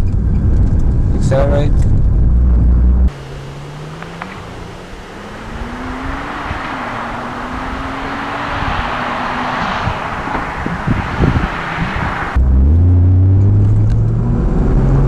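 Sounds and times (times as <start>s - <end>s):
car engine accelerating: 0.0s - 15.0s
wind and tyre noise: 0.0s - 15.0s.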